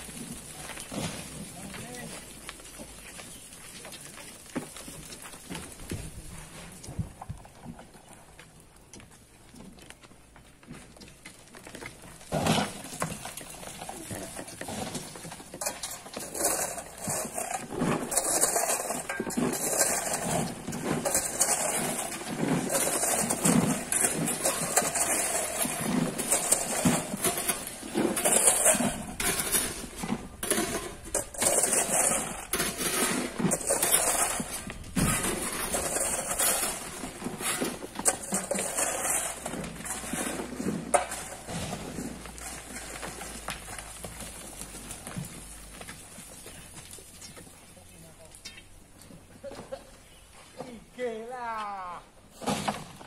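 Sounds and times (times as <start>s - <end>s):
rocks tumbling down cliff: 0.0s - 49.8s.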